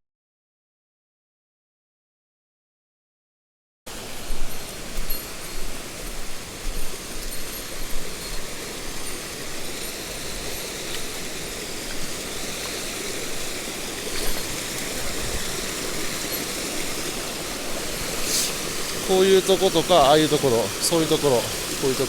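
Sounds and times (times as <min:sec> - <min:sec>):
stream water rushing: 0:03.9 - 0:22.0.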